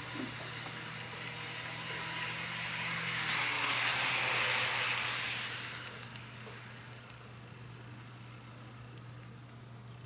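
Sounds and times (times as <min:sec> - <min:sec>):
model train whirring past: 0:00.0 - 0:09.1
steady low hum: 0:00.0 - 0:10.0.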